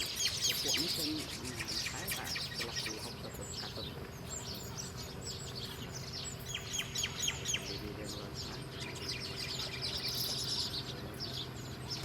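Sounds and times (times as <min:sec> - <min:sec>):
small birds twittering: 0:00.0 - 0:12.0.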